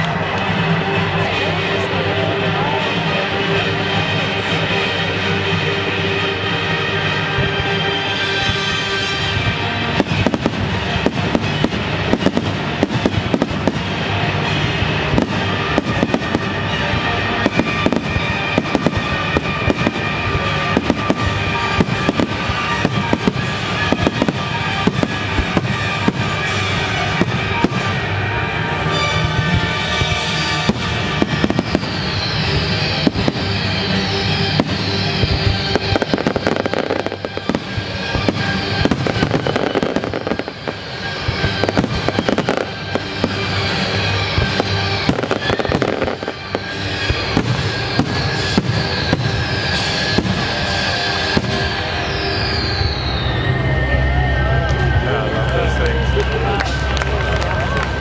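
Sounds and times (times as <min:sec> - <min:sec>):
loud music: 0:00.0 - 0:58.0
fireworks bangs: 0:07.0 - 0:54.0.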